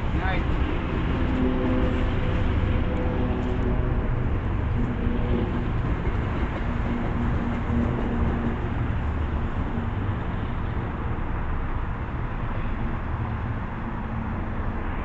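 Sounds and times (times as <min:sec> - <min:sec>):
diesel train rumbling past: 0:00.0 - 0:15.0.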